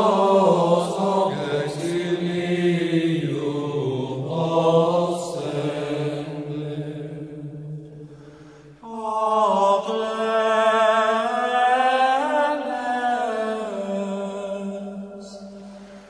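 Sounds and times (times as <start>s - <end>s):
slow sung chant: 0.0s - 16.0s.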